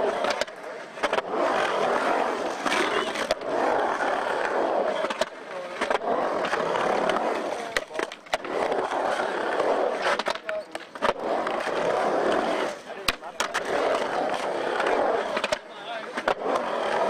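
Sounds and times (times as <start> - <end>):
skateboard clacks: 0.0 - 17.0
skateboard wheels rolling on concrete: 0.0 - 17.0.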